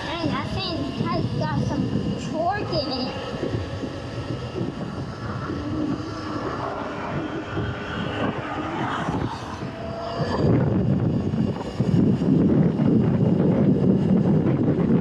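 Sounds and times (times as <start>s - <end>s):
electric motor whine: 0.0s - 15.0s
wind noise on microphone: 0.0s - 15.0s.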